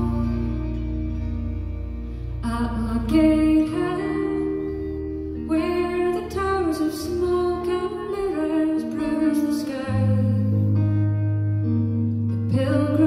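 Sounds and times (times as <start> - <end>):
woman singing folk song: 0.0 - 11.2, 12.3 - 13.0
drone instrument: 0.0 - 13.0.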